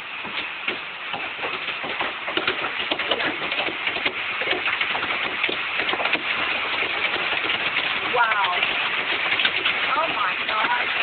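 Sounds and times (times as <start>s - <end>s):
hail pelting on water and boat: 0.0s - 11.0s.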